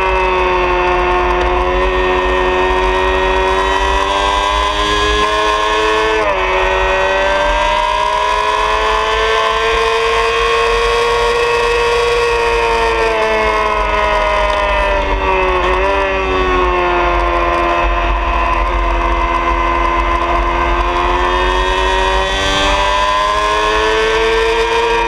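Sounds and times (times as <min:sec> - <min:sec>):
motorcycle engine at high revs: 0:00.0 - 0:25.0.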